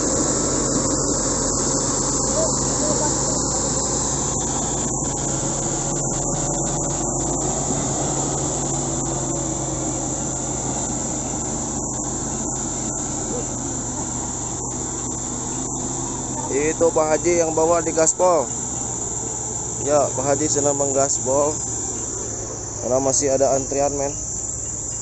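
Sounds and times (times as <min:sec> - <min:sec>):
high-pitched insect drone: 0:00.0 - 0:25.0
vehicle engine running: 0:00.0 - 0:25.0.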